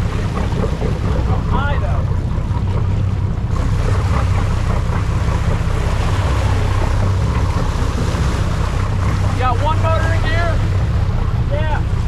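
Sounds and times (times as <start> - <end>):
boat engine humming: 0.0 - 12.0
water churning along hull: 0.0 - 12.0.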